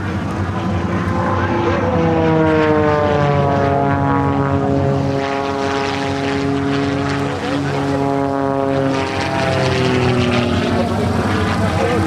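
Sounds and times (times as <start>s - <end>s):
propeller airplane flying past: 0.0s - 12.0s.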